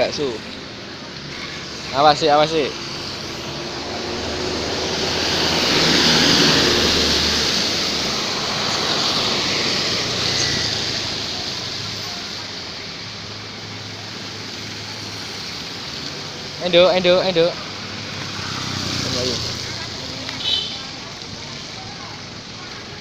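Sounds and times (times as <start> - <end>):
rain: 0.0 - 23.0
traffic hiss on wet road: 0.0 - 23.0.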